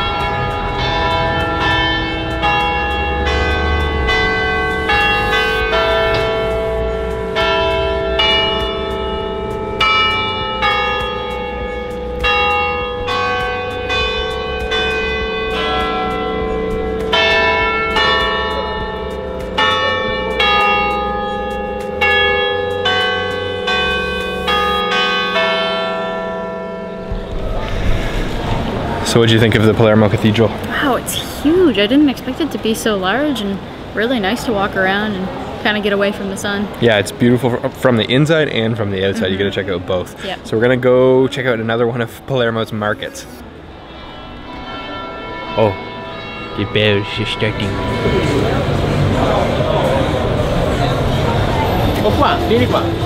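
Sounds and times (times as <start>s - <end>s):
church bells ringing: 0.0s - 53.0s.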